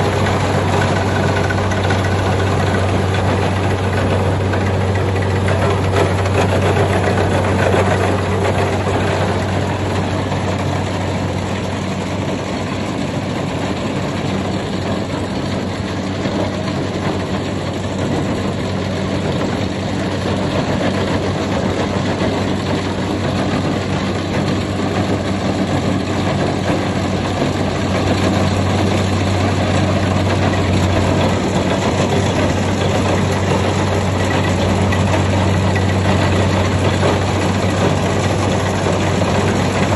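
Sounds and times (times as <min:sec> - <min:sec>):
combine harvester engine drone: 0:00.0 - 0:39.9
dense mechanical noise: 0:00.0 - 0:39.9.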